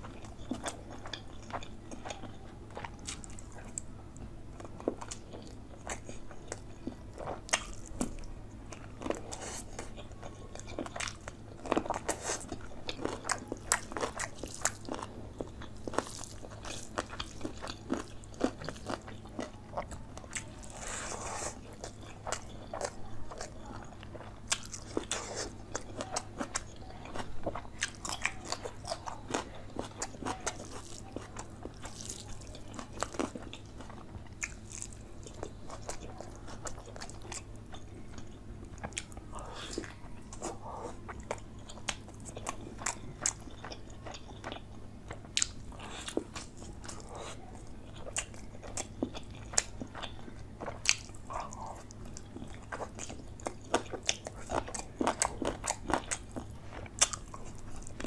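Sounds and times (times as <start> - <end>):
biting and chewing food: 0.0 - 58.0.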